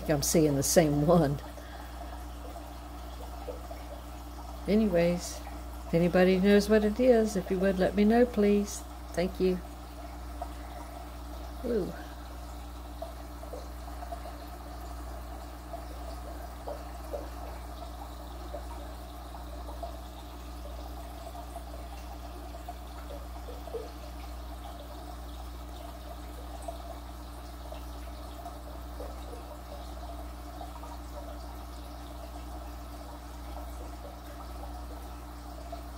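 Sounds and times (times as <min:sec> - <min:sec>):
aquarium filter bubbling: 0:00.0 - 0:35.9.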